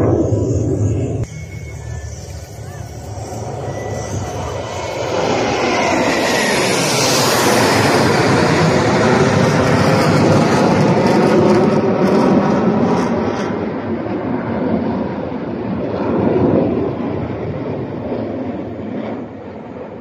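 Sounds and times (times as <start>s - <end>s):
jet engines roaring overhead: 0.0s - 20.0s.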